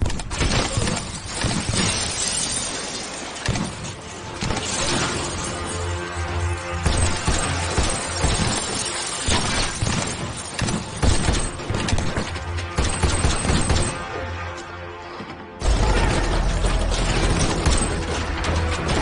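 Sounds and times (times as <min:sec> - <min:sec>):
dramatic film music: 0:00.0 - 0:19.0
glass shattering: 0:00.3 - 0:14.0, 0:15.6 - 0:19.0.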